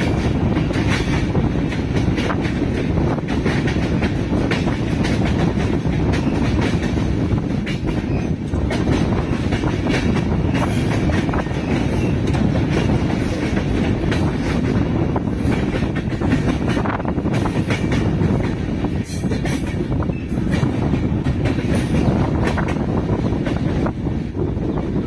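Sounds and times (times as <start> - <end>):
train wheels clattering over track: 0.0 - 25.0
train wheels rumbling on rails: 0.0 - 25.0.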